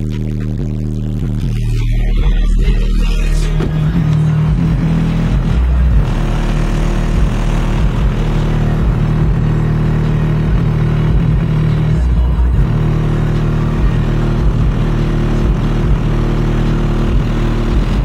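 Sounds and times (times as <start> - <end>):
bass-heavy rap music: 0.0 - 18.0.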